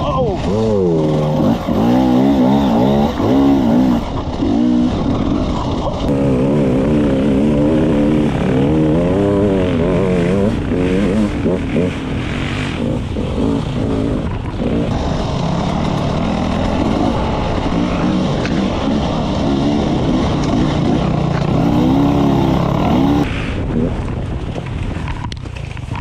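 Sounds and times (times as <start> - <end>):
dirt bike engine revving: 0.4 - 23.9.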